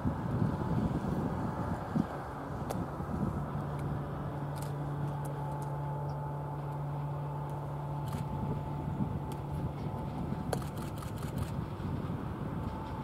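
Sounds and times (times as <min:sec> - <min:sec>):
distant locomotive engine: 0:00.0 - 0:13.0.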